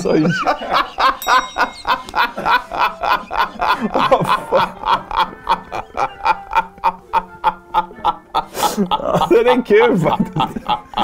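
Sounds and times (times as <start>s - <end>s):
men laughing hard: 0.0s - 11.0s.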